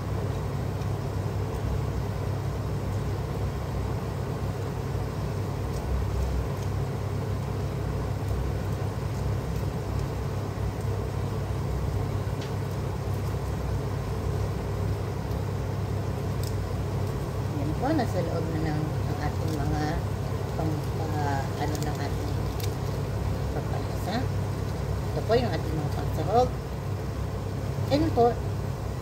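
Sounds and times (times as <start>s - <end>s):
low rumble of kitchen stove: 0.0s - 29.0s.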